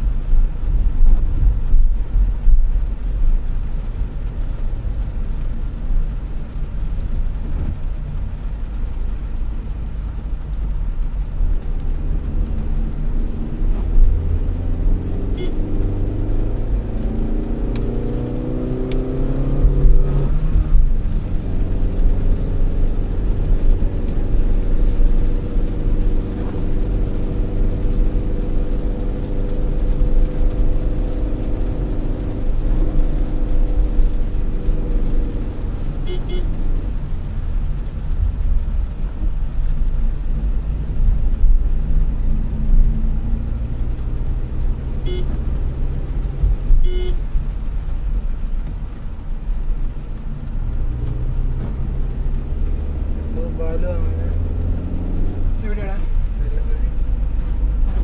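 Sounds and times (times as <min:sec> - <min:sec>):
car engine accelerating: 0:00.0 - 0:58.0
road rumble: 0:00.0 - 0:58.0.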